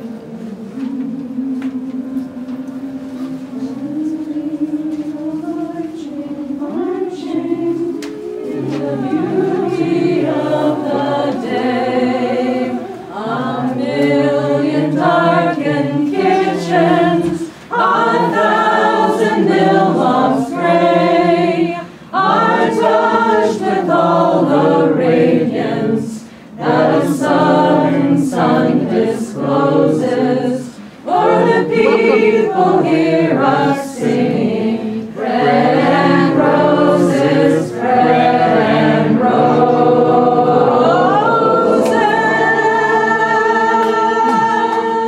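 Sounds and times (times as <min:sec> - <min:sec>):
group singing unaccompanied: 0:00.0 - 0:45.0.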